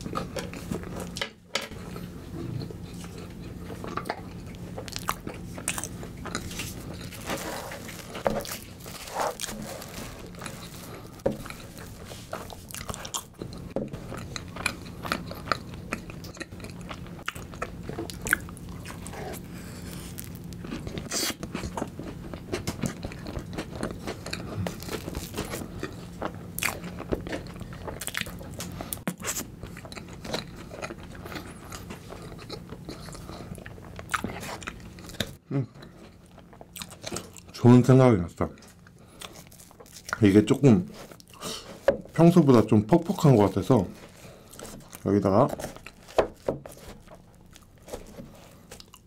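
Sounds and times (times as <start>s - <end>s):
chewing and crunching cookies: 0.0s - 49.0s.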